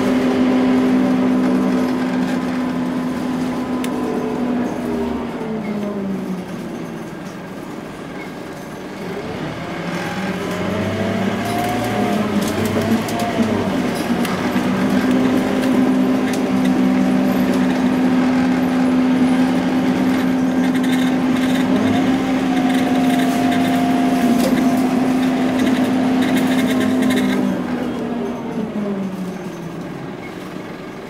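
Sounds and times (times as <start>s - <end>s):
bus engine drone: 0.0s - 31.0s
drivetrain whine: 0.0s - 31.0s.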